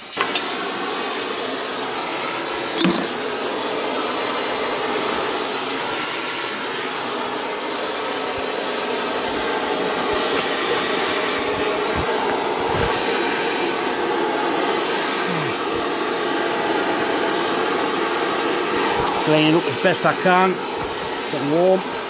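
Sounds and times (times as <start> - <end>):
gas flame hissing: 0.0 - 22.0.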